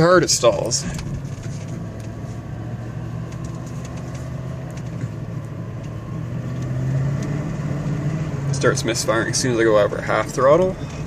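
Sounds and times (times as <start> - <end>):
car engine misfiring: 0.0 - 11.0.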